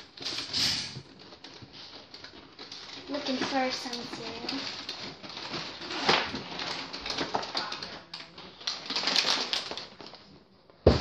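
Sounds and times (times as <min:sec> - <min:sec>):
packages rustling on shelves: 0:00.0 - 0:11.0.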